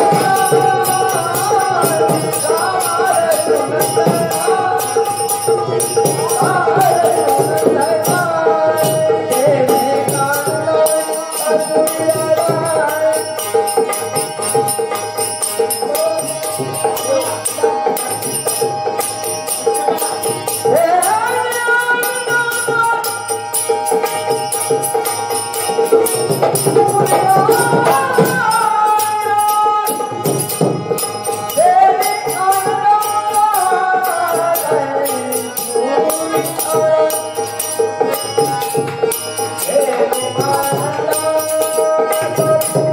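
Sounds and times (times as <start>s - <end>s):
jingling rattle percussion: 0.0s - 42.9s.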